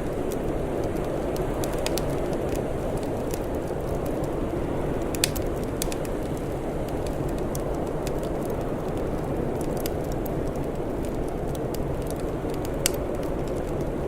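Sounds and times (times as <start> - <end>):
wood fire crackling: 0.0 - 14.0
fire popping sharply: 1.2 - 13.9.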